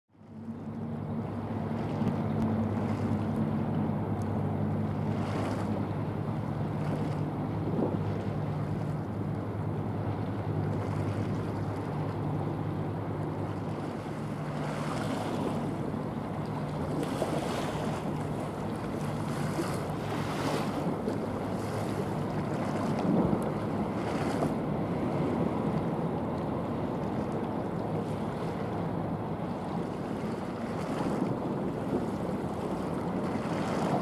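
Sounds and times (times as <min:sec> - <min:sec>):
low two-tone hum: 0:00.1 - 0:34.0
waves washing: 0:00.3 - 0:34.0
wind buffeting microphone: 0:00.9 - 0:34.0.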